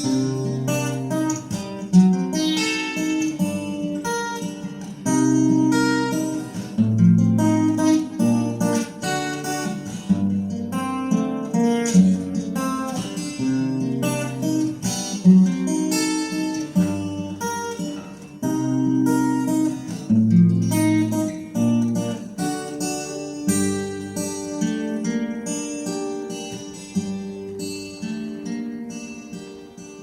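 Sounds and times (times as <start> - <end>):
acoustic guitar strumming chords: 0.0 - 30.0.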